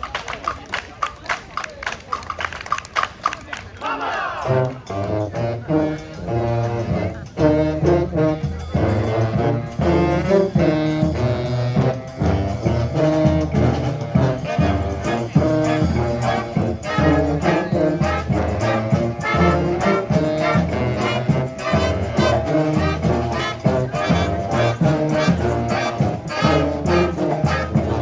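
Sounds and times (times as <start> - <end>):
brass band playing: 3.9 - 28.0.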